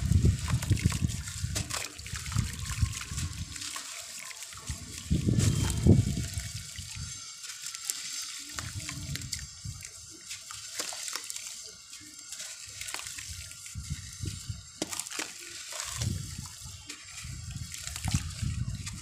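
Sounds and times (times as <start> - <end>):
water sloshing and splashing: 0.0 - 19.0
wet cement crumbling: 0.0 - 19.0.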